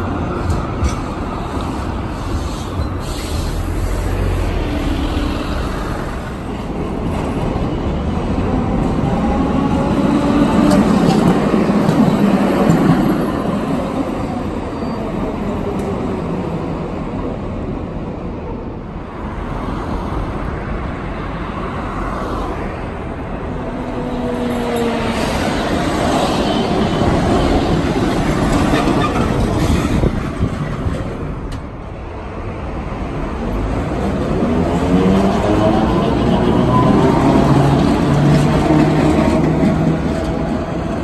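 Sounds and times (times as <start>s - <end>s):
street traffic noise: 0.0s - 41.0s
trams rumbling on rails: 0.0s - 41.0s.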